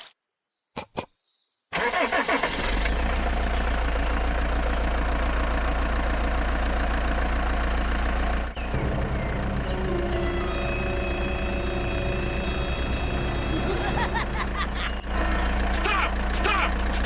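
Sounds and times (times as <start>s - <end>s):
tractor engine idling: 1.8s - 17.0s.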